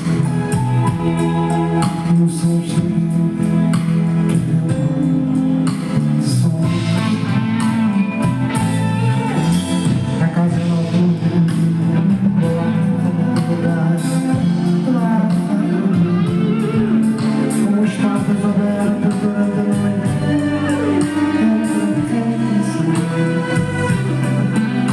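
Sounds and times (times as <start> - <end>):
live band music: 0.0 - 24.9
person singing: 0.0 - 24.9.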